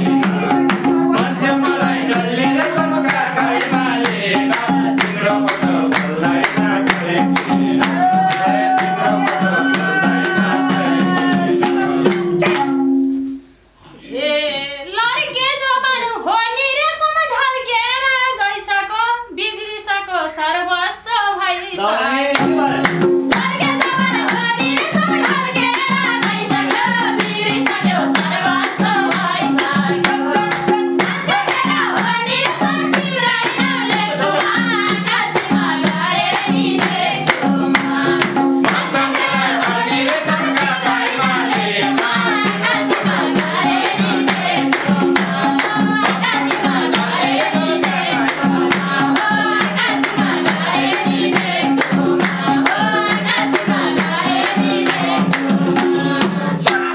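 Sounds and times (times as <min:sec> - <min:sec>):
group singing folk song in chorus: 0:00.0 - 0:12.8, 0:21.8 - 0:56.9
hand clapping: 0:00.0 - 0:13.4, 0:22.3 - 0:56.9.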